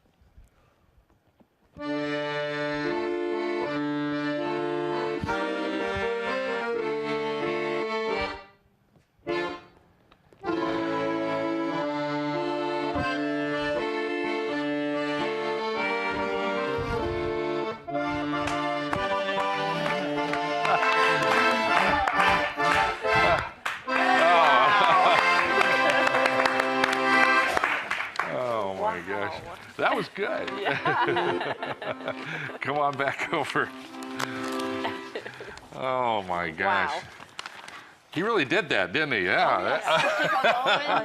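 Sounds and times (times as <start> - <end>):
accordion playing chords and melody: 1.8 - 36.9.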